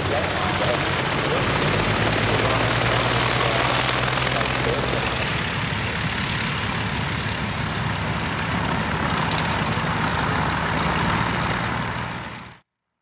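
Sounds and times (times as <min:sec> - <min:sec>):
propeller aircraft engines droning: 0:00.0 - 0:12.6.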